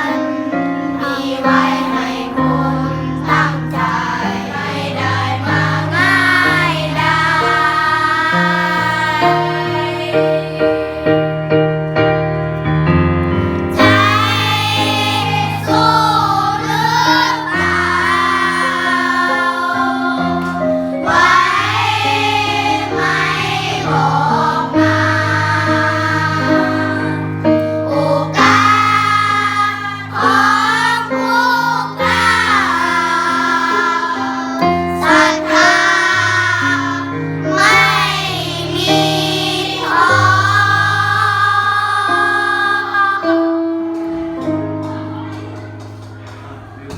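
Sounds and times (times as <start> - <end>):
keyboard chords: 0.0 - 46.9.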